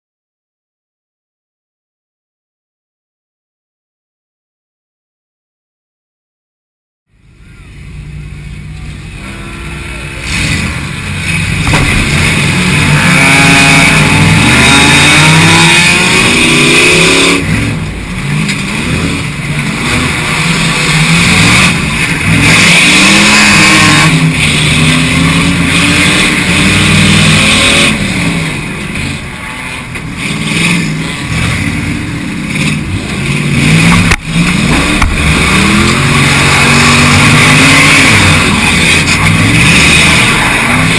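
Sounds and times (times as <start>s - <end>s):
car engines revving and accelerating: 7.1s - 40.9s.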